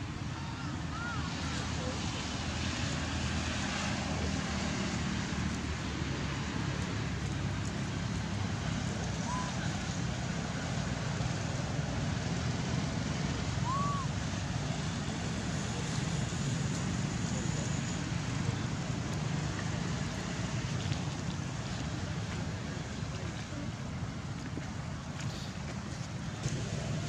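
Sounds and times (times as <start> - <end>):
rushing outdoor background noise: 0.0 - 27.0.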